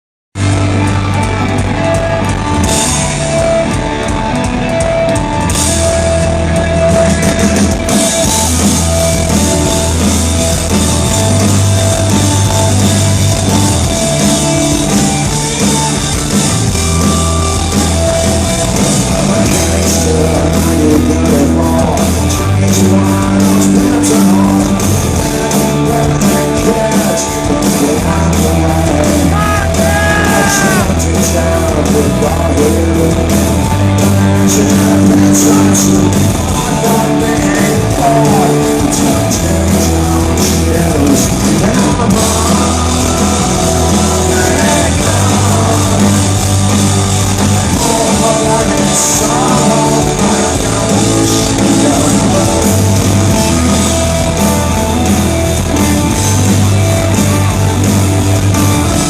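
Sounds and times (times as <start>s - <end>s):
live punk rock band: 0.4s - 59.0s.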